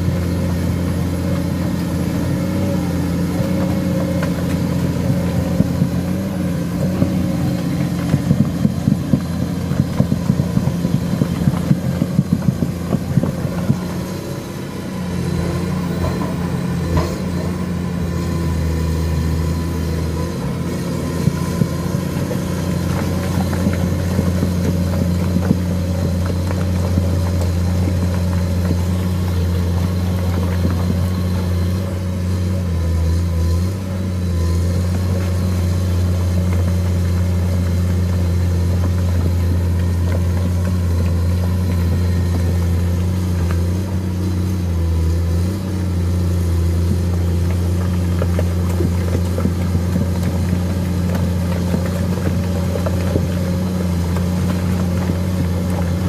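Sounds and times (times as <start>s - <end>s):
excavator diesel engine drone: 0.0s - 56.0s.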